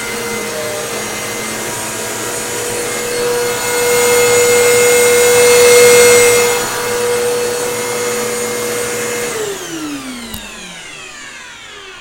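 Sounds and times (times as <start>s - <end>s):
motor winding down: 0.0s - 12.0s
vacuum cleaner running: 0.0s - 12.0s.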